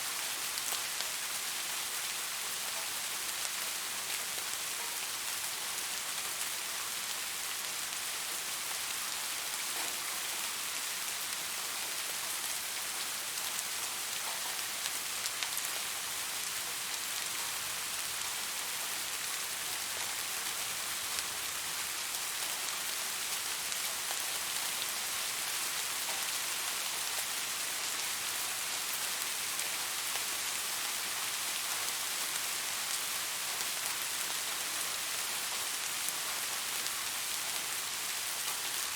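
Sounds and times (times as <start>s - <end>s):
soft rain hiss: 0.0s - 38.9s.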